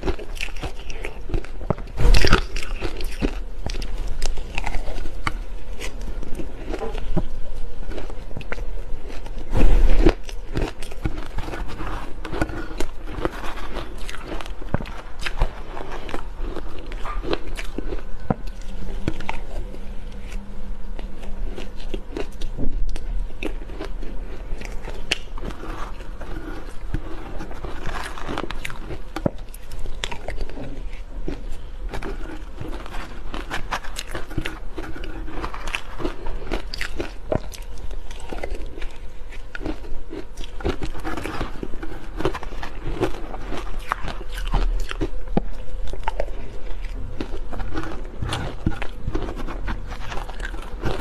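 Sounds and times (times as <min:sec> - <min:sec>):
crunching and chewing shaved ice: 0:00.0 - 0:51.0.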